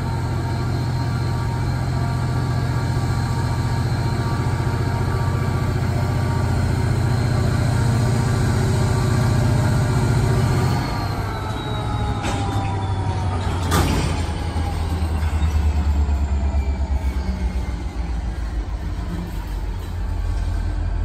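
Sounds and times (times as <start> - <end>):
high wheel squeals: 0.0 - 20.9
diesel locomotive engine rumbling: 0.0 - 21.0.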